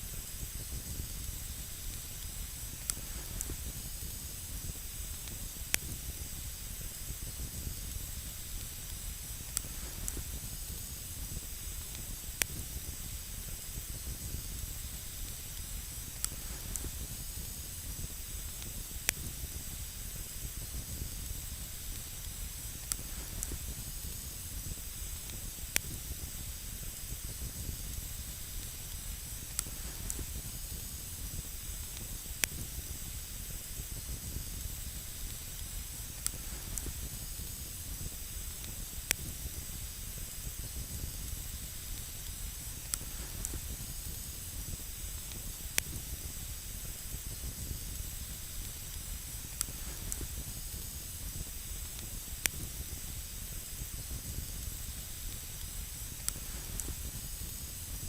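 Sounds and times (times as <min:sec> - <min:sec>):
campfire hissing and rumbling: 0:00.0 - 0:58.0
fire crackling pops: 0:00.0 - 0:58.0.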